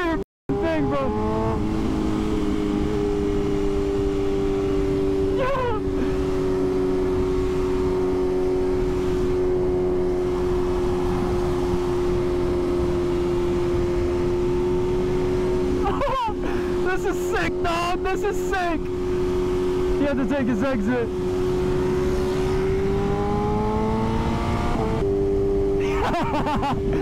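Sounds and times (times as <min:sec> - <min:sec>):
motorcycle engine cruising: 0:00.0 - 0:27.0
wind and road rush: 0:00.0 - 0:27.0.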